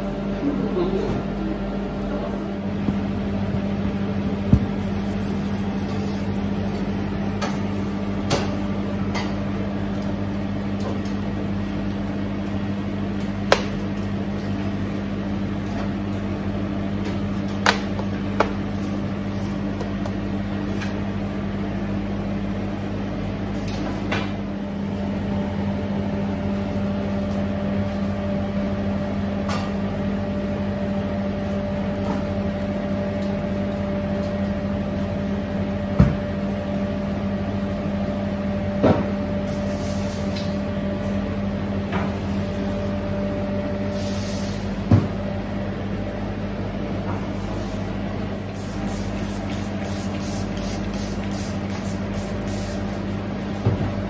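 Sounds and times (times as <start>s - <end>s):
kitchen machinery humming: 0.0s - 54.0s.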